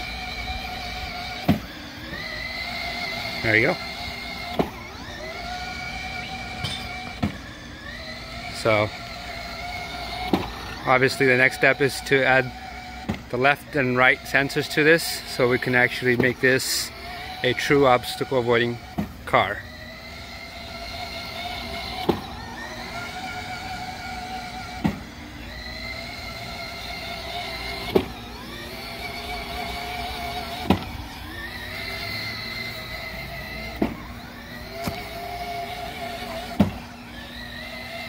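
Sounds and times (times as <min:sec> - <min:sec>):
toy car electric motor whining: 0:00.0 - 0:38.0.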